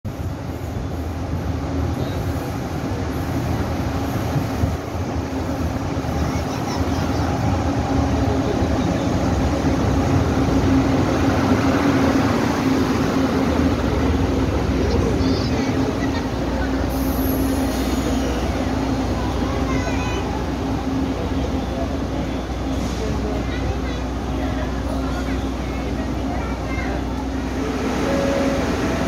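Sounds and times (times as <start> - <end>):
train humming and rumbling: 0.1 - 29.0.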